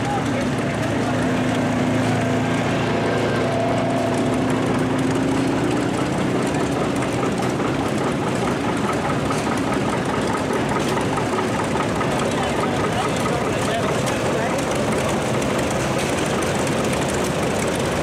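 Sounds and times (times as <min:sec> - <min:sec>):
tractor engines running: 0:00.0 - 0:18.0.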